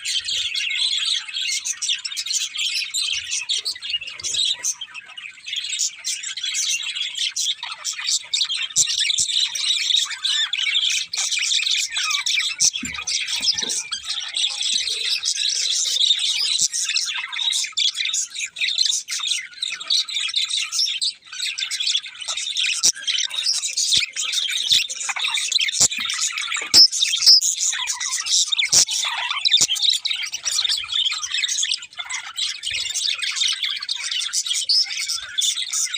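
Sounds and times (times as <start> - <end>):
budgerigars chirping: 0.1 - 35.9.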